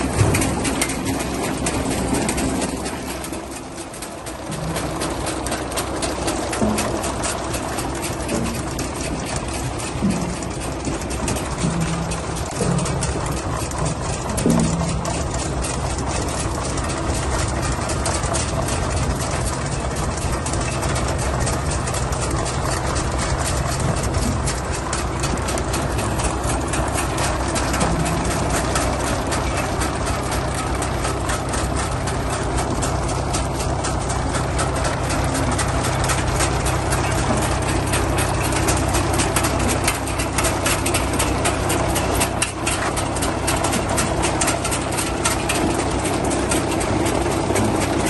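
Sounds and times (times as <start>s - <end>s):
harvester clattering and rattling: 0.0s - 48.0s
tractor diesel engine running: 0.0s - 48.0s.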